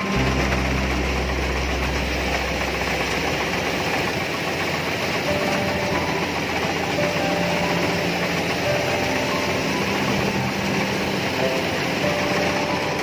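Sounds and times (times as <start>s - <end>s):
combine harvester engine drone: 0.0s - 13.0s
faint machine whine: 0.0s - 13.0s.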